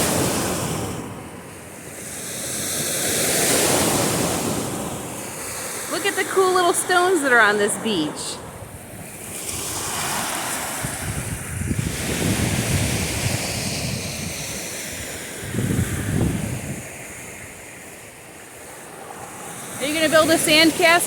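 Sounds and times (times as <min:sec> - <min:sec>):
wind rumbling on microphone: 0:00.0 - 0:06.4, 0:07.8 - 0:21.0
waves washing onto beach: 0:00.0 - 0:21.0.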